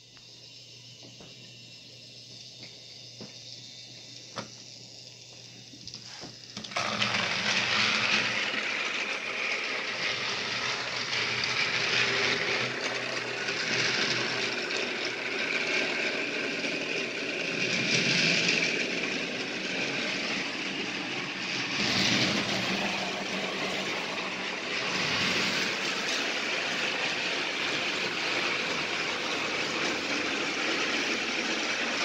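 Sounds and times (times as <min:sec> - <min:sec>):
toy train motor whirring: 0:00.0 - 0:32.0.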